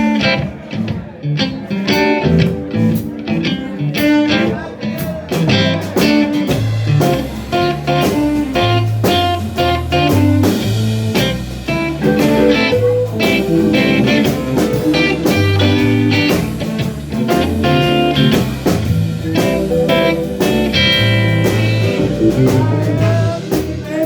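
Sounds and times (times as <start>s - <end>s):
lead guitar: 0.0s - 23.9s
blues band playing: 0.0s - 24.0s
steady drum beat: 2.2s - 24.0s.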